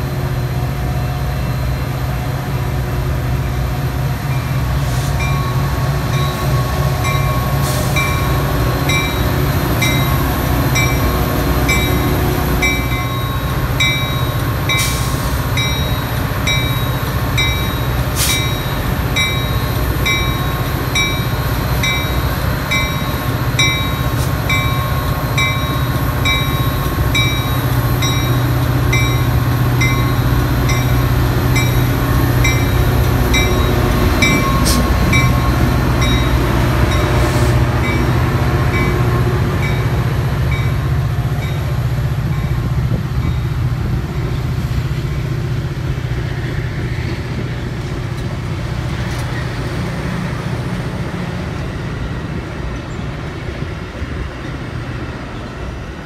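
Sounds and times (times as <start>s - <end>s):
diesel train rumbling past: 0.0s - 56.0s.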